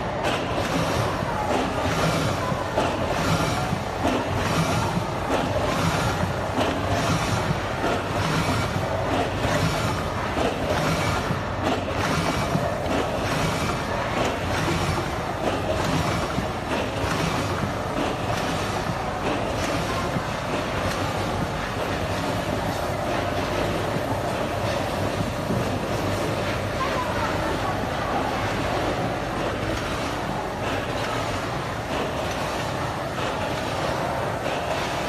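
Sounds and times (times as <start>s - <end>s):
packing machine clattering: 0.0s - 35.0s.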